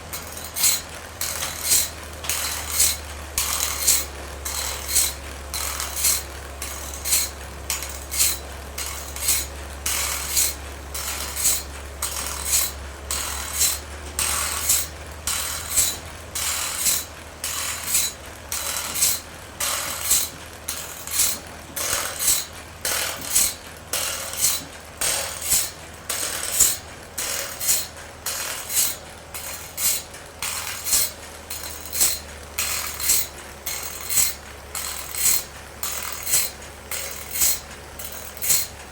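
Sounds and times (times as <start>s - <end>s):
low machine hum: 0.0s - 38.9s
machinery clicking: 0.1s - 38.9s.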